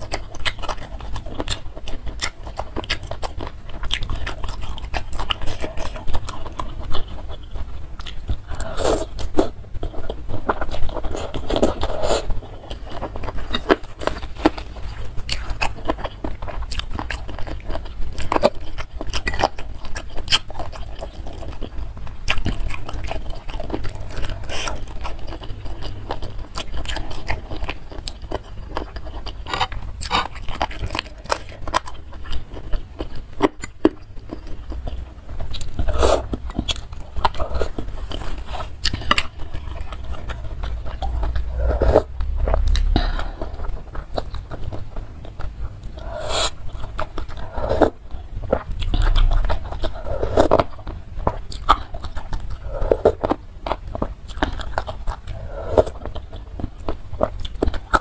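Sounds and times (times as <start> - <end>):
chewing and slurping noodles: 0.0 - 58.0.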